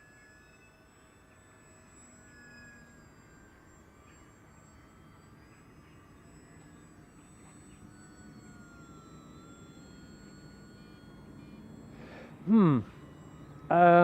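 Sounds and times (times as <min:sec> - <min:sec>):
distant model plane motor whine: 0:00.0 - 0:14.0.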